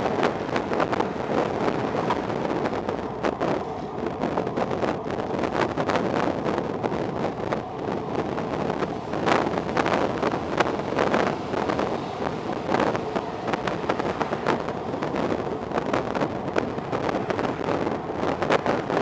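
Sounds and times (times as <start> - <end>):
car road and engine noise: 0.0 - 19.0
wind buffeting microphone: 0.0 - 19.0.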